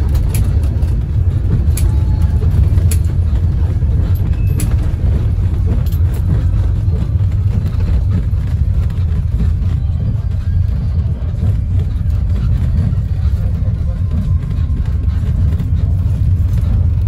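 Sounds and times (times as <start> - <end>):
bus engine and road rumble: 0.0 - 17.0
sharp rattles and clicks: 0.0 - 17.0.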